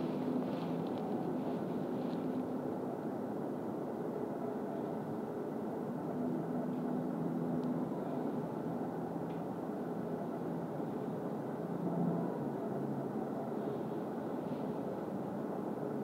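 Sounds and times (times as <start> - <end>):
faint droning hum: 0.0 - 16.0.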